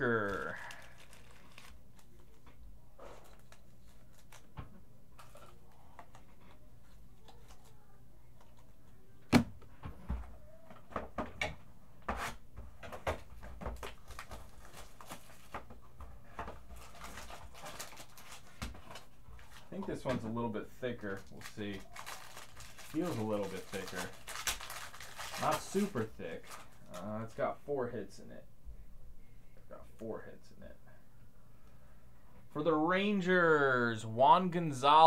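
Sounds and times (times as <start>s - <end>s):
room hum: 0.0s - 35.0s.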